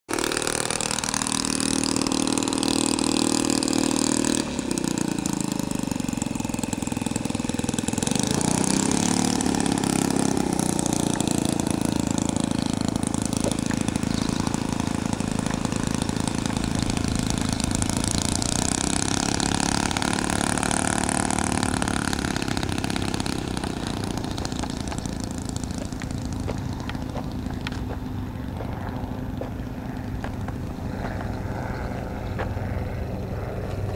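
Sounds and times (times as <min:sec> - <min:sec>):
model plane engine running: 0:00.1 - 0:33.9.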